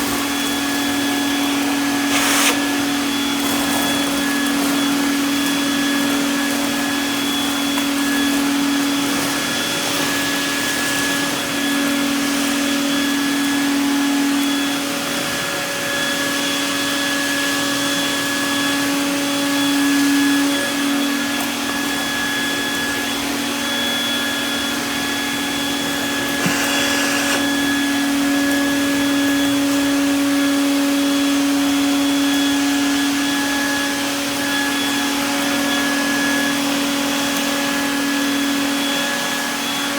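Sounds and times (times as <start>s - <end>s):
shop vacuum running: 0.0s - 39.9s.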